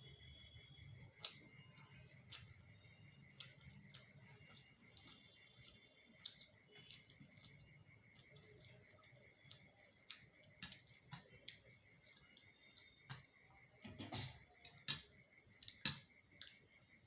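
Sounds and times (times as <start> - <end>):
chewing clicks and smacks: 0.1 - 17.0.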